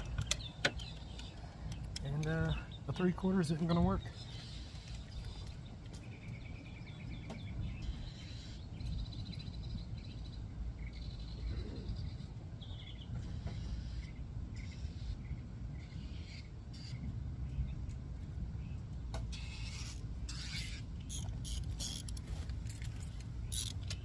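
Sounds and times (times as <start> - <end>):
birds chirping and trilling: 0.0 - 24.0
steady low rumble: 0.0 - 24.0.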